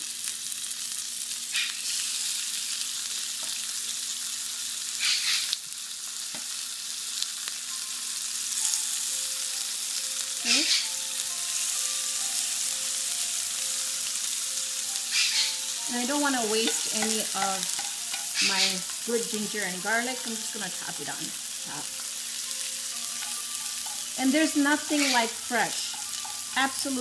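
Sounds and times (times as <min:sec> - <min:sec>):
fish steaks sizzling on grill pan: 0:00.0 - 0:27.0.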